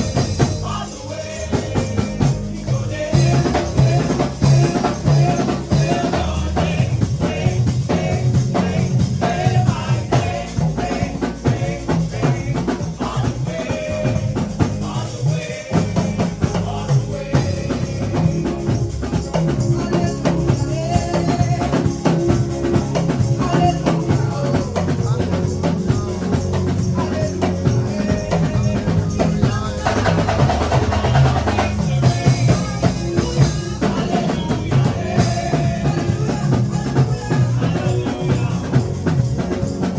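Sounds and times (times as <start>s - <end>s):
bass: 0.0s - 39.9s
drum kit beat: 0.0s - 39.9s
people singing: 0.0s - 39.9s.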